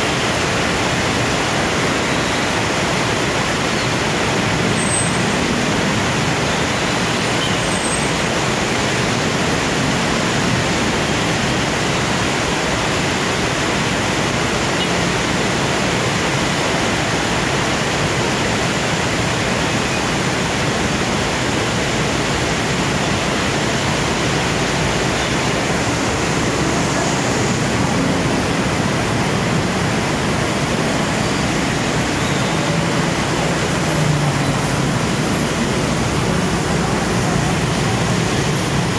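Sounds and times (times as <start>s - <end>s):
heavy rain pouring: 0.0s - 38.9s
road traffic rumbling: 0.0s - 38.9s.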